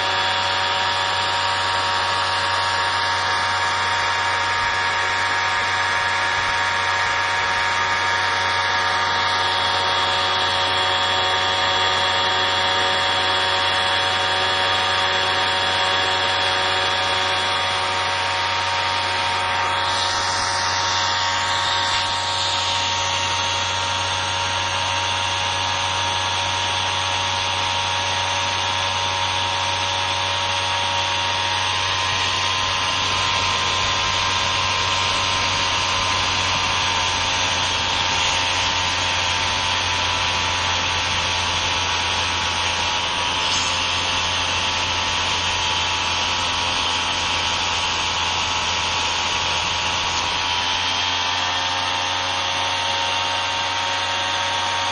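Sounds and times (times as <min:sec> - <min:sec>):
electric motor whine: 0:00.0 - 0:54.9
rushing fan noise: 0:00.0 - 0:54.9.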